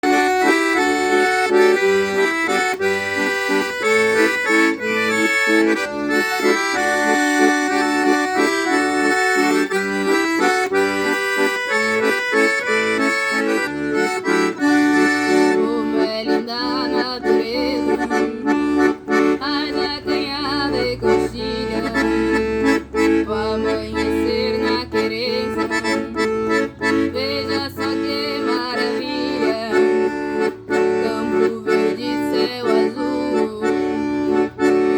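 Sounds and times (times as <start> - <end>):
instrumental music: 0.0 - 34.9.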